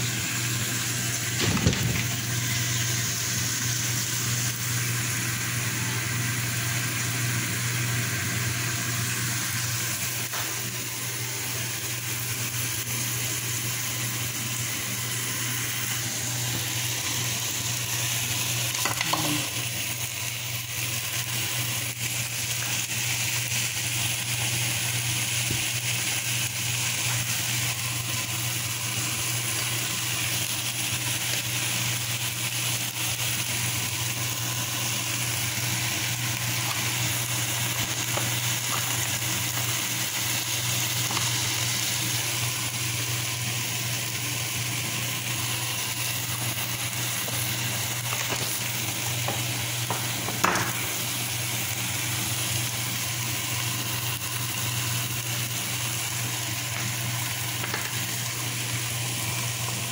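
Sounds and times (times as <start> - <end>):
chicken and onions sizzling in oil: 0.0 - 59.9.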